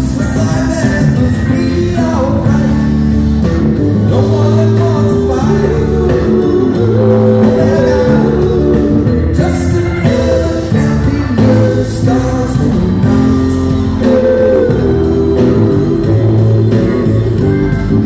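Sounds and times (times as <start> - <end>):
person singing: 0.0 - 3.2, 4.0 - 18.0
live rock band playing: 0.0 - 18.0.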